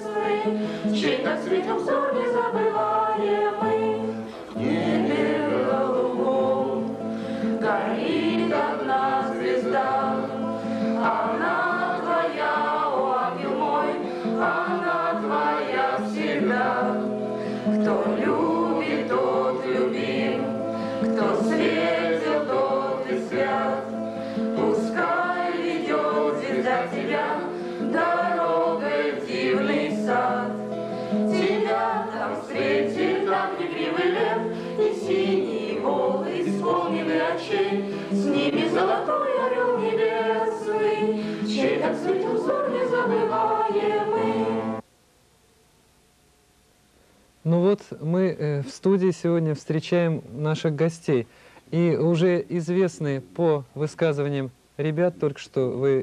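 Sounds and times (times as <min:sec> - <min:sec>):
group of voices singing: 0:00.0 - 0:44.8.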